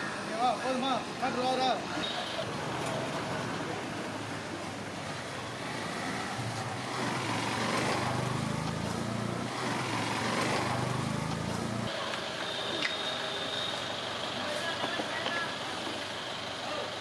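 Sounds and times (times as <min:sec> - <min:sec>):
street traffic: 0:00.0 - 0:17.0
vehicle engine humming: 0:01.9 - 0:17.0.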